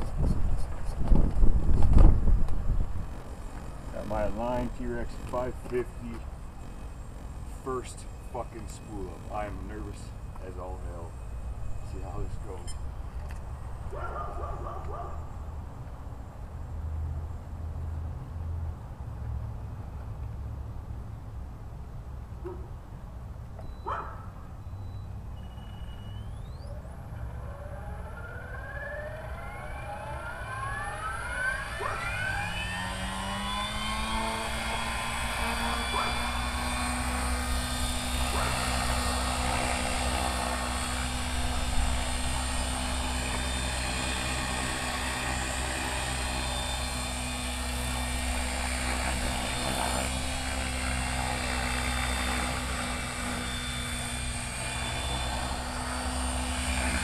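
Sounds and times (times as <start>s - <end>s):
rc helicopter motor and rotor whine: 0.0s - 16.8s, 23.9s - 57.0s.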